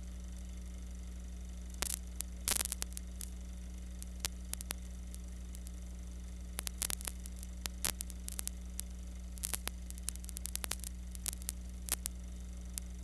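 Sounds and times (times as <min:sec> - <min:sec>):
electrical hum: 0:00.0 - 0:13.0
film static crackling: 0:01.5 - 0:13.0.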